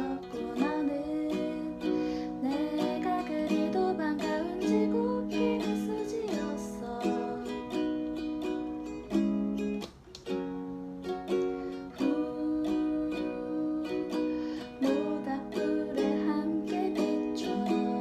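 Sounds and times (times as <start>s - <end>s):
ukulele strumming chords: 0.0s - 18.0s.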